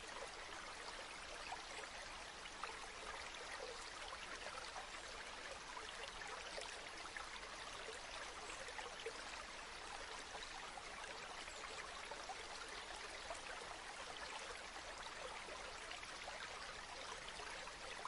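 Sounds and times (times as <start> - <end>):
stream flowing: 0.0 - 18.0.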